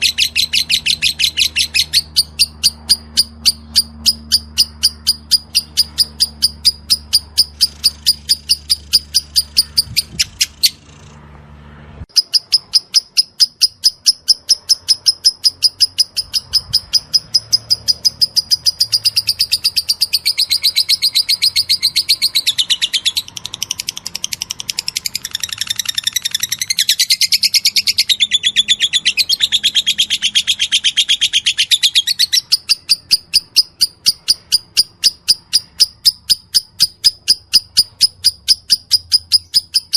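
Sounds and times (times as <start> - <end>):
lovebird high chirps: 0.0 - 11.2, 12.1 - 39.9
wavering lovebird chatter: 0.0 - 11.2, 12.1 - 39.9.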